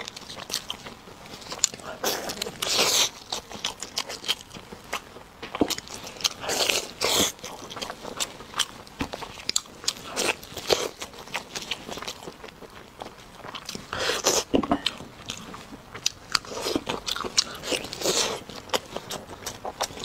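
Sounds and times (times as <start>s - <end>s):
biting and chewing ribs: 0.0s - 20.0s.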